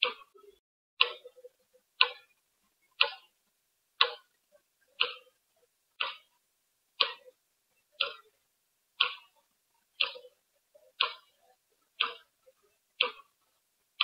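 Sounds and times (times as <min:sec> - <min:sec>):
clock ticking: 0:00.0 - 0:03.4, 0:04.0 - 0:06.4, 0:07.0 - 0:08.4, 0:09.0 - 0:14.0.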